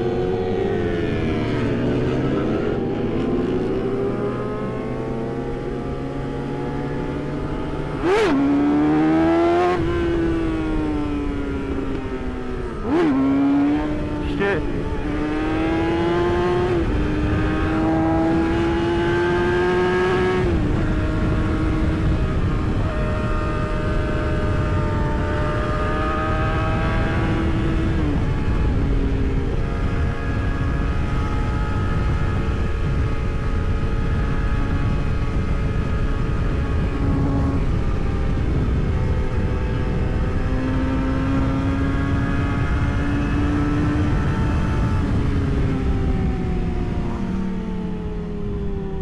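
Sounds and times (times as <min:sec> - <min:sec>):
motorcycle engine revving: 0:00.0 - 0:49.0
wind and road noise: 0:00.0 - 0:49.0.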